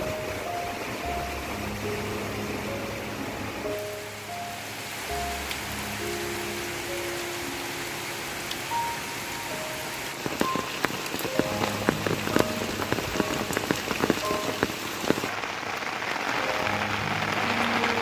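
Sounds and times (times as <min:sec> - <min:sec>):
soft background music: 0:00.0 - 0:15.3, 0:16.1 - 0:18.0
raindrops hitting a surface: 0:00.0 - 0:18.0
steady rain: 0:00.0 - 0:18.0.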